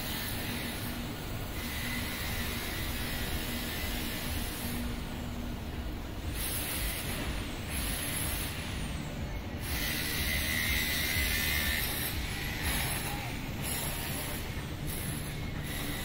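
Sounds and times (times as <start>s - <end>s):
city ambience rush: 0.0s - 16.0s.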